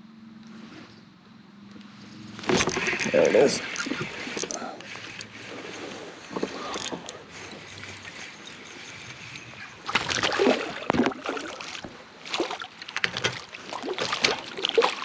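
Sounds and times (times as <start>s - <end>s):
fish splashing irregularly: 2.4s - 15.0s
water splashing at a kayak: 2.4s - 15.0s.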